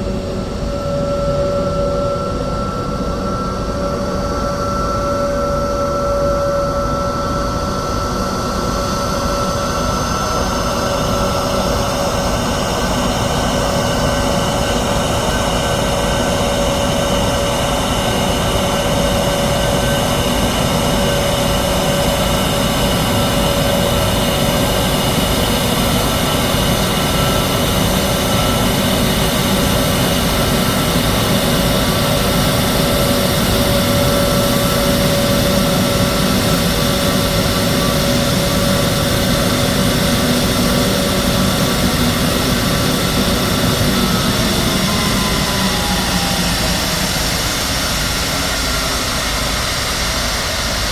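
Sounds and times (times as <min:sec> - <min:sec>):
jet engines rushing and whining: 0:00.0 - 0:50.9.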